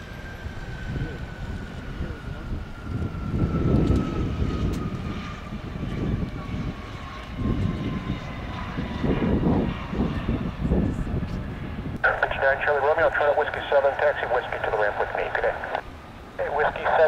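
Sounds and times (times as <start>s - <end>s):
jet engine whine and rumble: 0.0s - 17.0s.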